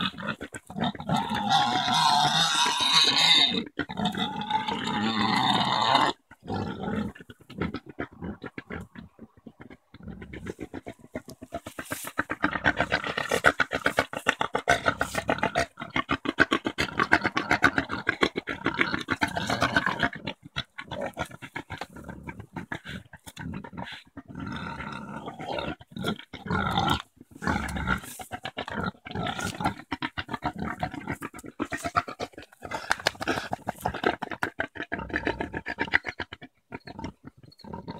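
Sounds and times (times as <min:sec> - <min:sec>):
pigs grunting rapidly: 0:00.0 - 0:37.9.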